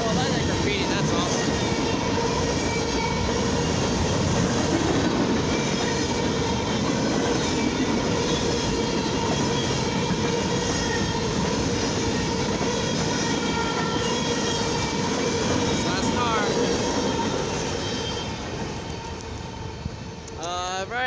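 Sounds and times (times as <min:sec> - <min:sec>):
train wheels rumbling on rails: 0:00.0 - 0:20.3.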